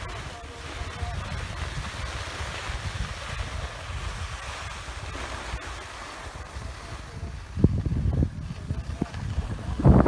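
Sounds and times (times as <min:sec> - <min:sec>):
skis sliding on snow: 0:00.0 - 0:10.0
wind buffeting microphone: 0:00.0 - 0:10.0.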